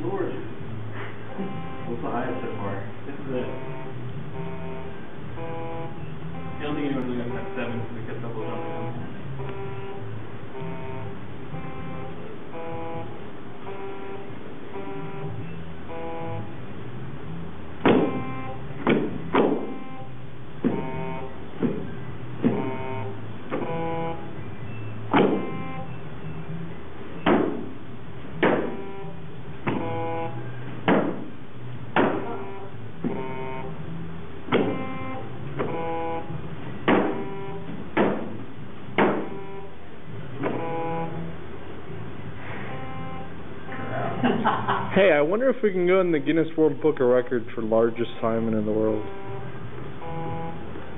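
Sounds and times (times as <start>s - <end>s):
short electronic notes: 0.0s - 30.7s, 31.3s - 44.2s, 47.1s - 50.9s.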